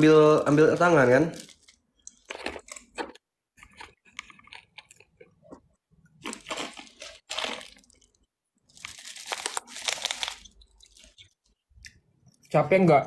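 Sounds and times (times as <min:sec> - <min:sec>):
crunchy chewing: 0:01.4 - 0:12.5.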